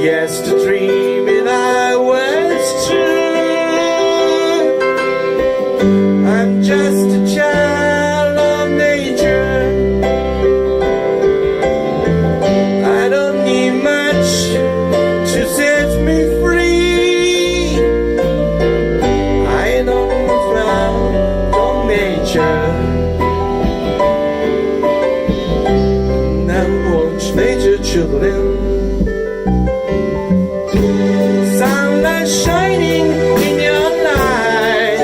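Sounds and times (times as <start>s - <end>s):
pop ballad singing: 0.0s - 11.6s, 12.4s - 24.2s, 25.3s - 29.3s, 30.7s - 35.0s
bass line: 0.0s - 35.0s.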